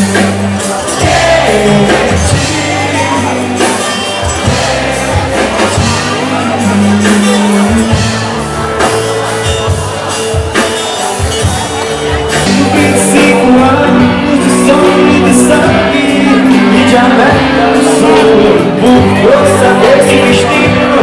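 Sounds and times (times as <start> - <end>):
audience shouting: 0.0 - 21.0
bass line: 0.0 - 21.0
drums: 0.0 - 21.0
live band playing: 0.0 - 21.0.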